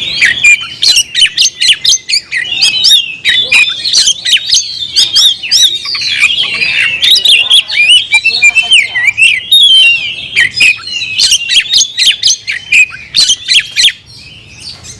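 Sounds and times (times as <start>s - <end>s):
bird singing varied whistles: 0.0s - 14.8s
harsh rasping bird chatter: 0.0s - 14.9s.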